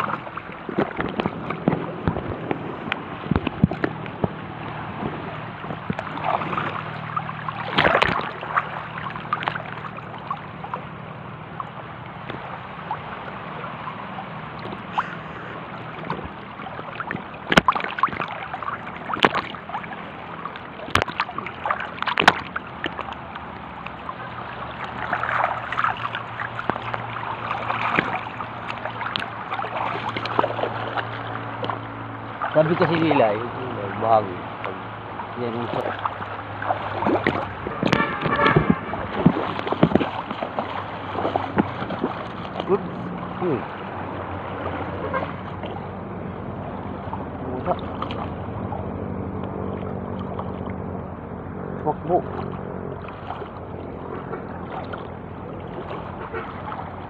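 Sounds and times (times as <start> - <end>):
small waves lapping and sloshing: 0.0 - 57.0.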